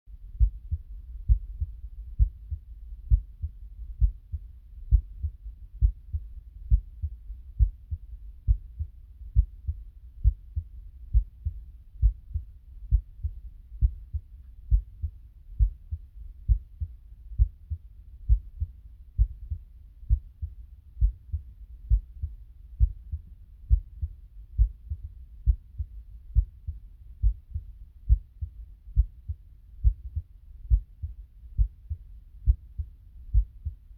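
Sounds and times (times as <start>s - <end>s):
heartbeat thuds: 0.4s - 33.9s.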